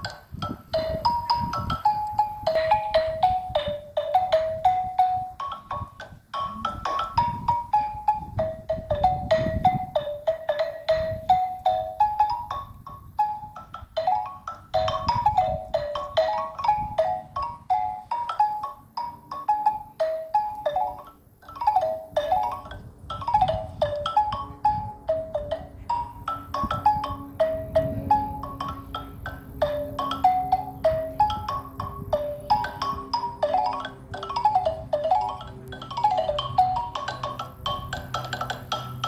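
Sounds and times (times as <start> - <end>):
xylophone played with mallets: 0.0 - 39.0.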